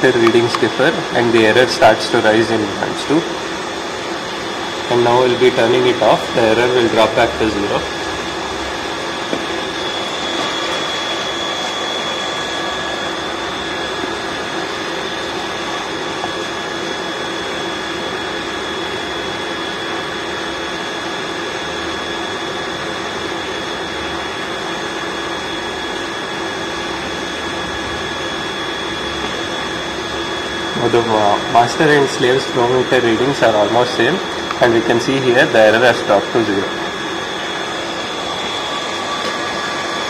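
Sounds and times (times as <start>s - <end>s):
electric water pump humming: 0.0s - 40.0s.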